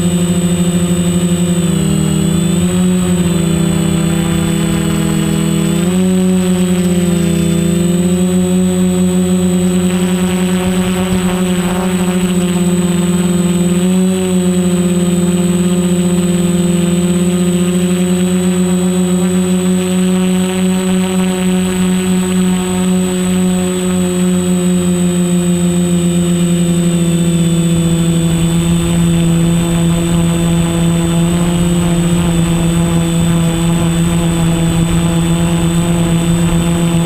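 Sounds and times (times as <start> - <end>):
drone propellers whining: 0.0 - 37.0
thin high-pitched whine: 0.0 - 37.0.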